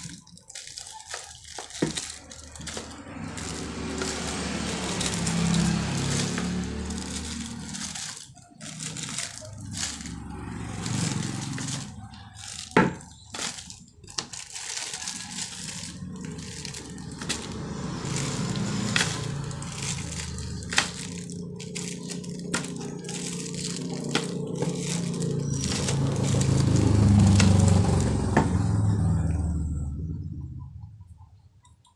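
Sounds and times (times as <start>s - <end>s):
plastic bags crinkling: 0.0s - 28.9s.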